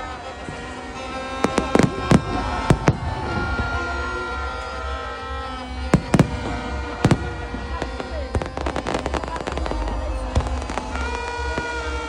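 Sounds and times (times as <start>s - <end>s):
crackling firework stars: 0.0s - 12.0s.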